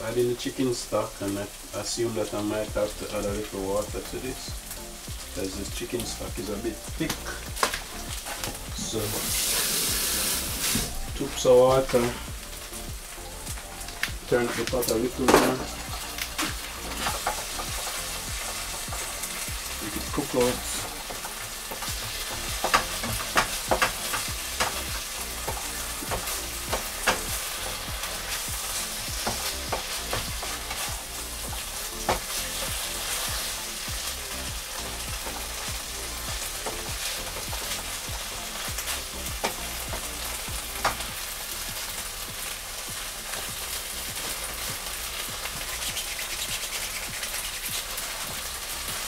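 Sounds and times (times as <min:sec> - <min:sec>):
sauce sizzling in a frying pan: 0:00.0 - 0:49.0.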